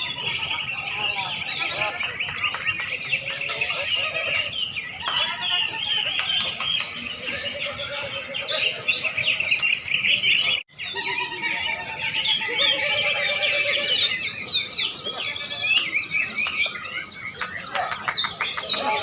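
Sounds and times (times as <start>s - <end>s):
songbirds chirping and trilling: 0.0s - 19.0s.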